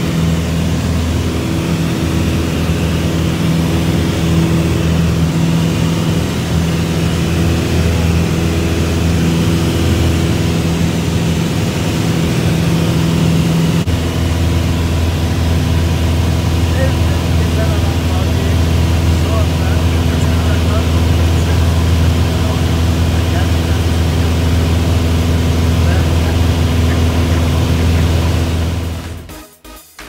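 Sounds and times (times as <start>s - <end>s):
propeller plane engine droning: 0.0s - 29.3s.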